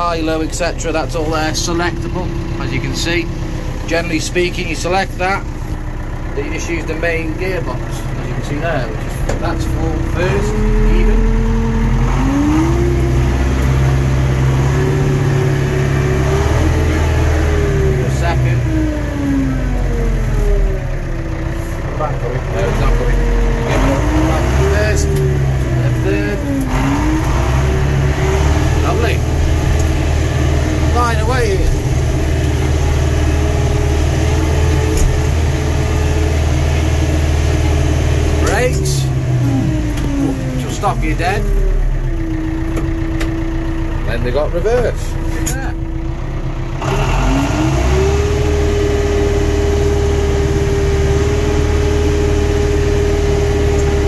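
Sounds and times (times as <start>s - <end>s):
engine whine: 0.0s - 54.0s
tractor diesel engine running: 0.0s - 54.0s.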